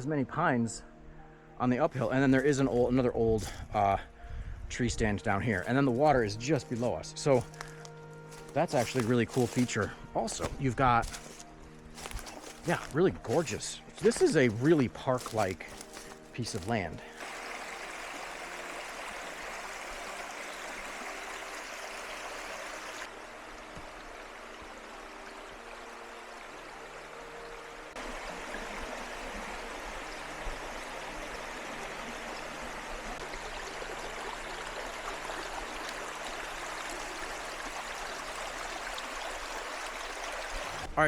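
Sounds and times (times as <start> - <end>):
brook flowing over riffles: 1.6 - 3.9, 5.2 - 41.0.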